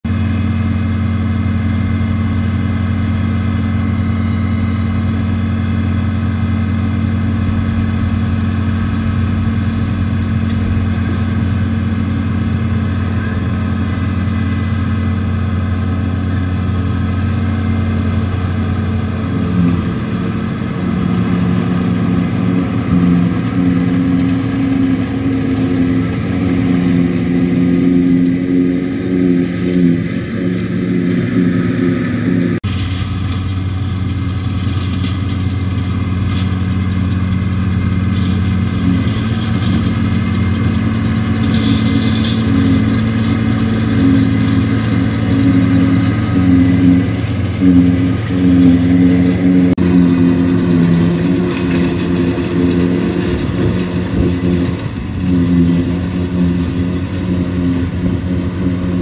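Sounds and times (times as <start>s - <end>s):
tractor engines droning under load: 0.0s - 59.0s.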